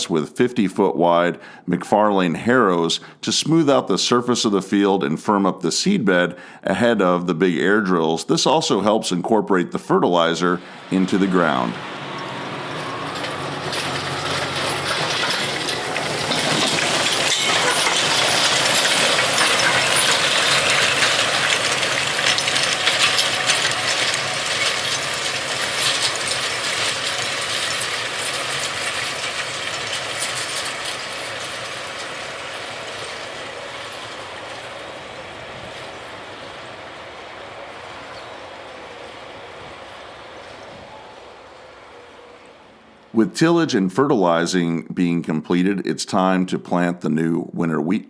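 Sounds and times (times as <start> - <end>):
tractor and harrow rattling: 0.0 - 41.9.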